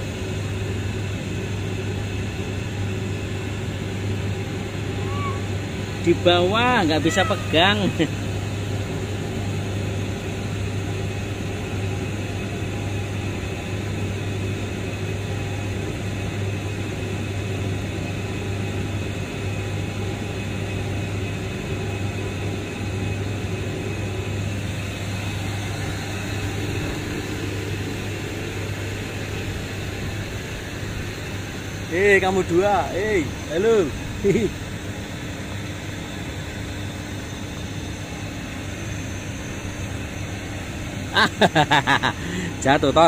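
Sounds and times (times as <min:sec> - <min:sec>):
machinery low hum: 0:00.0 - 0:43.0.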